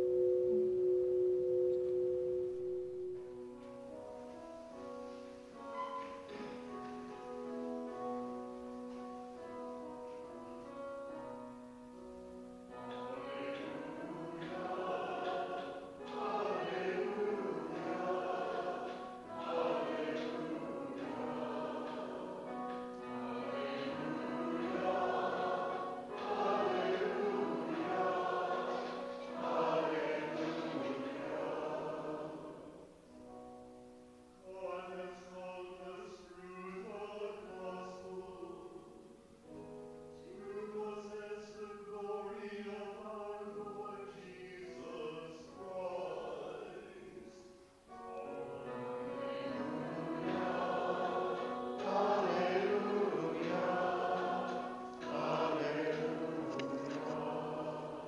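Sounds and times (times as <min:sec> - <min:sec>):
choir and congregation singing: 0:02.6 - 0:58.0.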